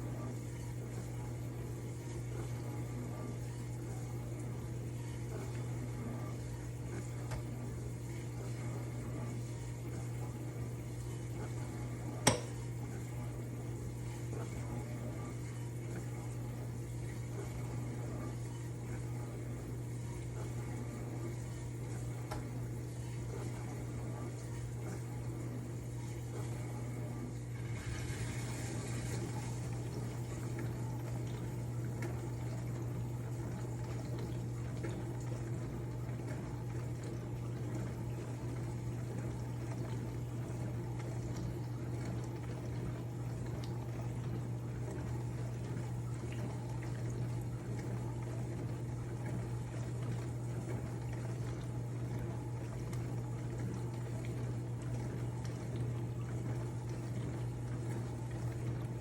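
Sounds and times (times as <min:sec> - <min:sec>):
appliance low hum: 0:00.0 - 0:59.0.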